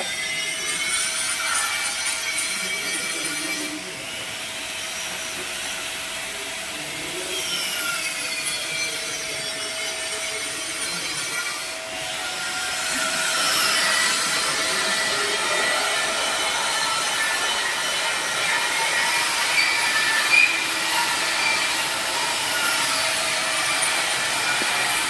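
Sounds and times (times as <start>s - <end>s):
welding arc hissing: 0.0s - 25.0s.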